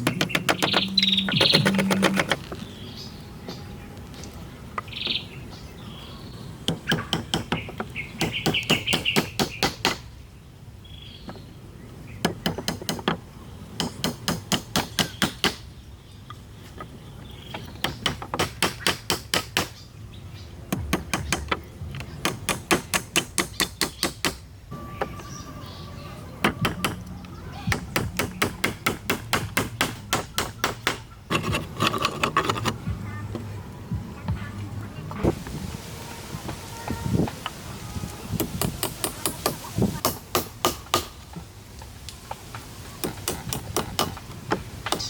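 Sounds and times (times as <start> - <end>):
small birds chirping: 0.0 - 40.1.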